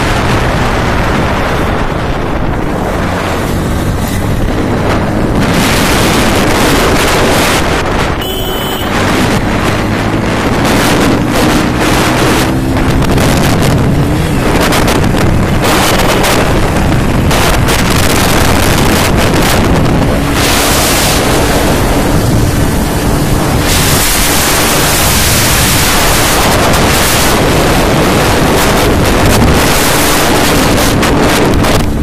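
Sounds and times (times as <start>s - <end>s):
motorcycle engine drone: 0.0s - 32.0s
wind buffeting microphone: 0.0s - 32.0s.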